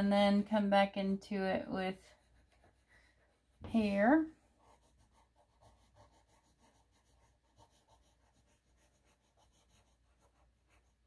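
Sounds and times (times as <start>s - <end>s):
pencil scratching on paper: 1.9s - 11.0s.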